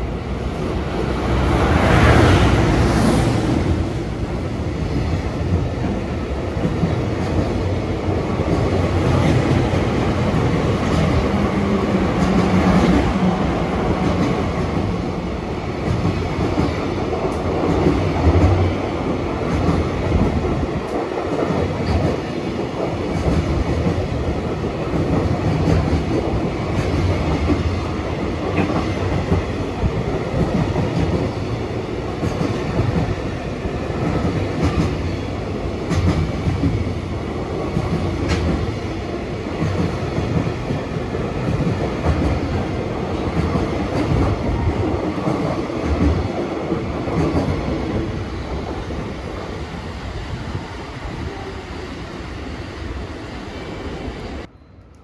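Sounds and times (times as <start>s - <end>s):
low train rumble: 0.0s - 55.0s.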